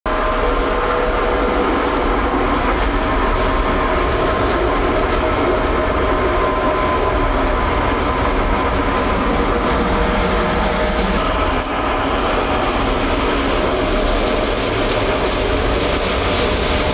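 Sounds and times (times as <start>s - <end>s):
steady whining tones: 0.1s - 16.9s
tram wheels rumbling on rails: 0.1s - 16.9s.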